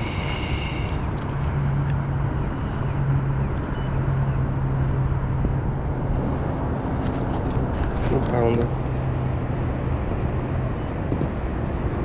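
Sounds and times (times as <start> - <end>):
constant rushing noise: 0.0 - 12.0
low hum: 0.0 - 12.0.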